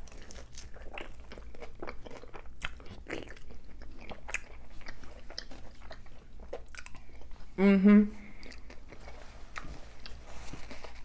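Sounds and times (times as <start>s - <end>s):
chewing with wet mouth smacks: 0.0s - 7.4s, 8.3s - 11.0s.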